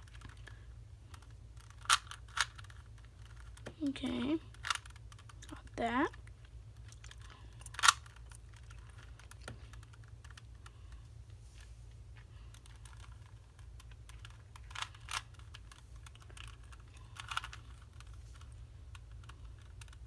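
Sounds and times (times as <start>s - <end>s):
puzzle cube layers clicking: 0.0s - 11.0s, 12.2s - 20.0s.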